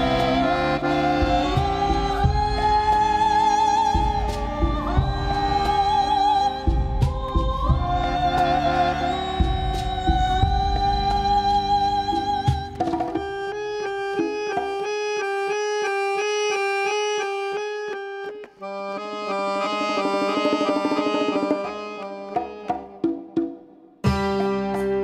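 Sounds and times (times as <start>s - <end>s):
accordion chords: 0.0s - 25.0s.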